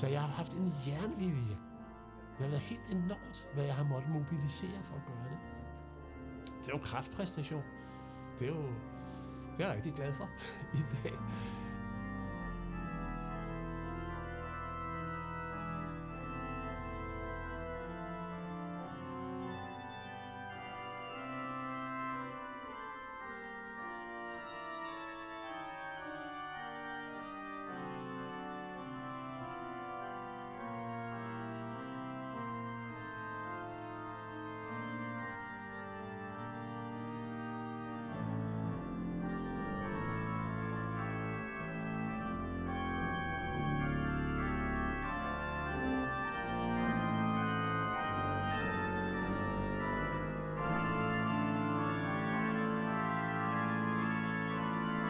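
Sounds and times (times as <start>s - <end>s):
pipe organ playing chords: 0.0s - 55.0s.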